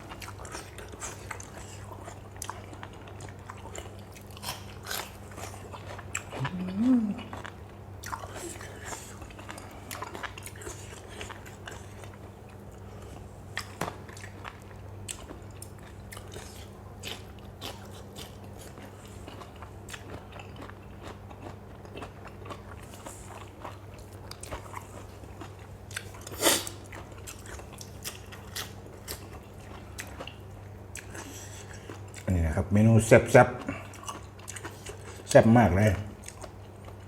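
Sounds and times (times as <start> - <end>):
crunching and chewing food: 0.0 - 37.0.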